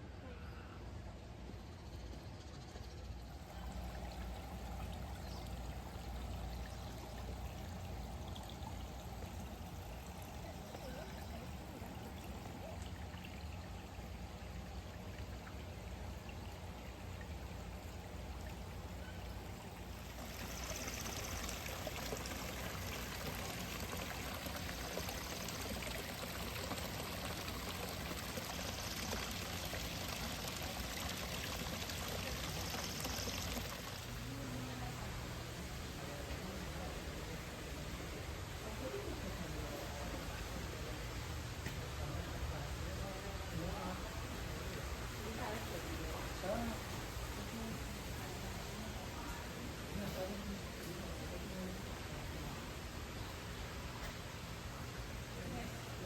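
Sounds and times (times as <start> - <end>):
running splashing water: 3.2 - 53.6.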